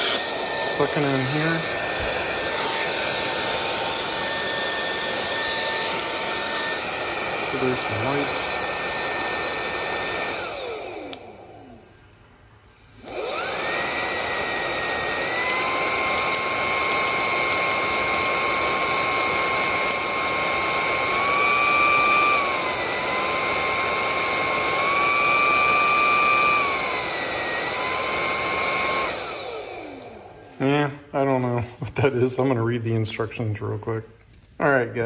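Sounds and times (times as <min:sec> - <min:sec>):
handheld vacuum whining: 0:00.0 - 0:32.8.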